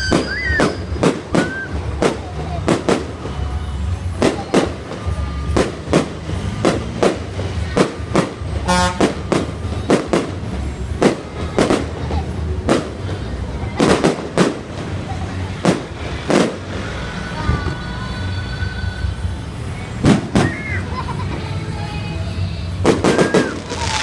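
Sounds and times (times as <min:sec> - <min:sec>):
fireworks bangs: 0:00.0 - 0:18.2, 0:20.0 - 0:21.5, 0:22.7 - 0:24.0.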